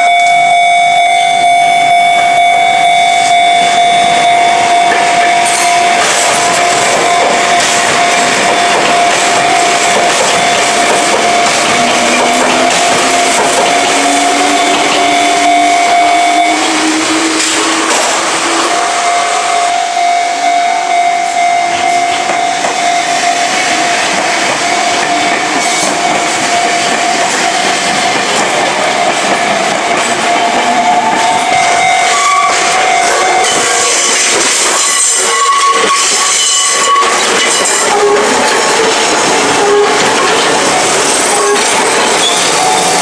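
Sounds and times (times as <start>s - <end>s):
level crossing warning bell: 0.0s - 43.0s
train wheels clattering: 4.0s - 19.8s, 21.7s - 43.0s.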